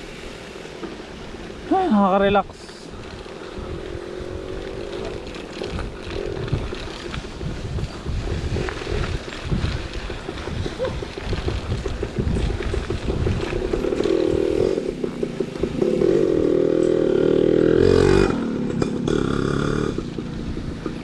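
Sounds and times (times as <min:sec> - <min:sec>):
small motorcycle engine running: 0:03.2 - 0:21.0.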